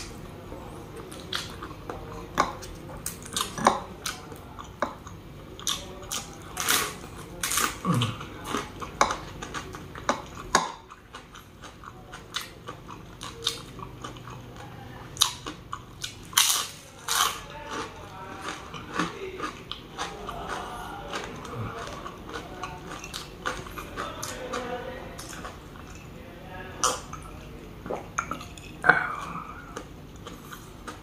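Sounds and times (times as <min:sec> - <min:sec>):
person crunching fried food: 0:05.5 - 0:31.0.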